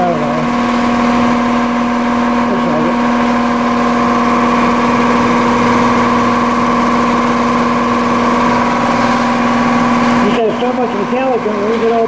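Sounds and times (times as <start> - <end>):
machine humming steadily: 0.0 - 12.0.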